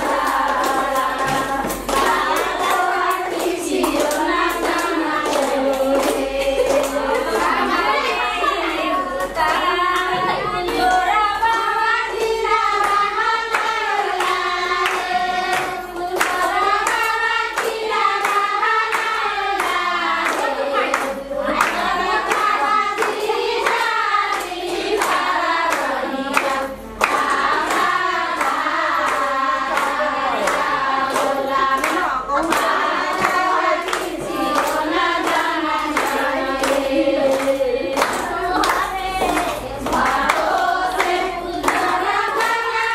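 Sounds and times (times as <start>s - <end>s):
group singing in unison: 0.0s - 42.9s
hands clapping to a beat: 0.0s - 42.9s.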